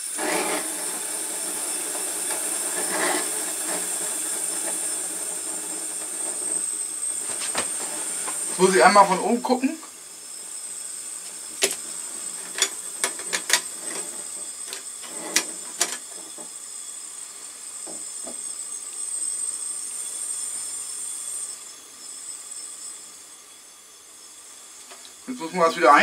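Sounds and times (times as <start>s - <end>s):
gas burner hissing: 0.0s - 26.0s.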